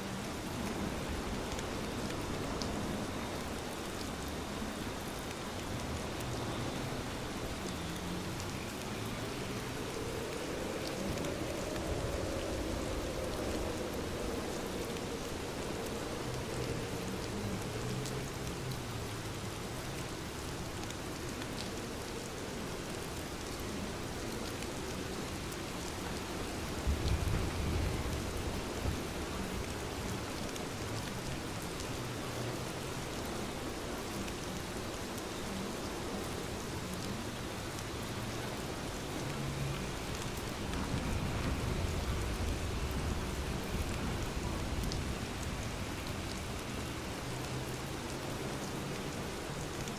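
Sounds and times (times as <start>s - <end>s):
rain falling on surfaces: 0.0s - 49.9s.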